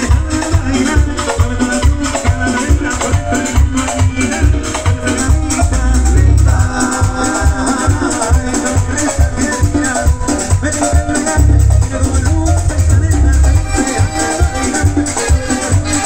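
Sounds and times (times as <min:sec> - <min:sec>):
live latin dance music: 0:00.0 - 0:16.0
shaker rhythm: 0:00.0 - 0:16.0.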